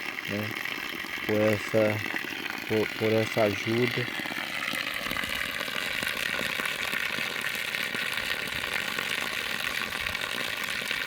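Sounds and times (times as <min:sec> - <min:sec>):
water gushing from well: 0:00.0 - 0:11.0.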